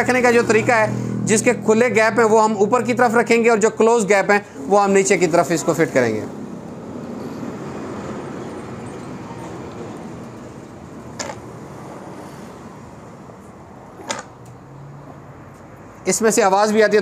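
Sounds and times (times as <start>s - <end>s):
traffic-like background noise: 0.0s - 17.0s.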